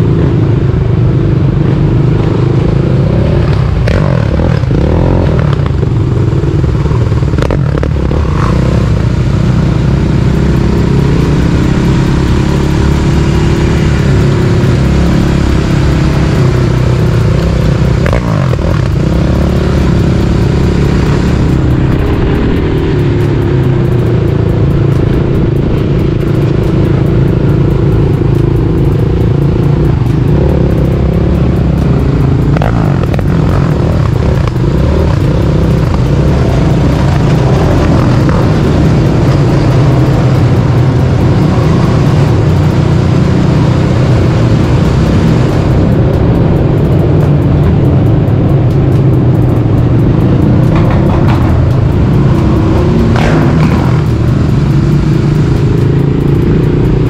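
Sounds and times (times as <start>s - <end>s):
vehicle road and engine noise: 0.0s - 57.0s.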